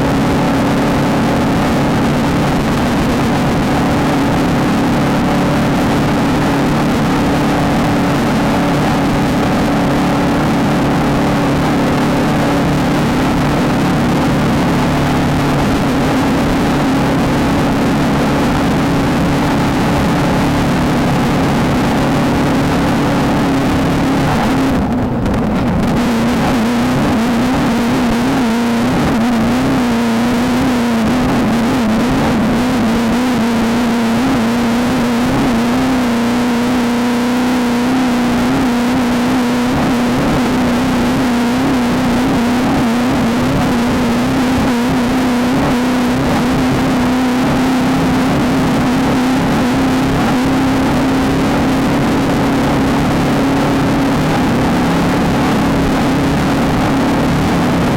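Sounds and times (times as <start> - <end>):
drivetrain and terrain noise: 0.0 - 57.9
race vehicle engine running hard: 0.0 - 57.9.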